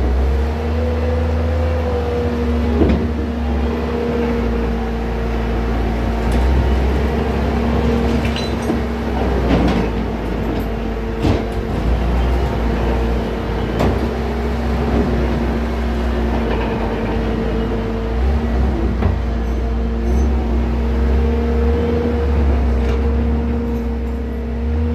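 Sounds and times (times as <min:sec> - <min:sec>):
diesel engine rumbling: 0:00.0 - 0:24.9.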